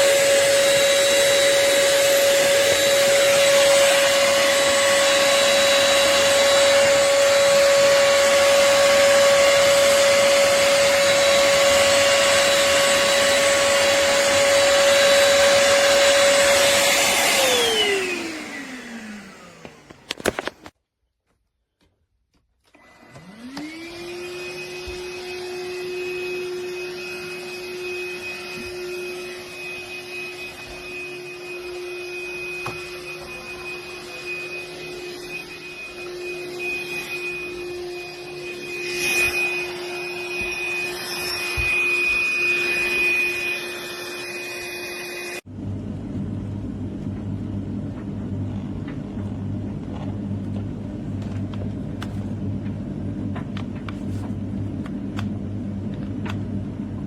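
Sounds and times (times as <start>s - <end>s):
stick vacuum motor whine: 0.0s - 20.7s, 22.7s - 57.0s.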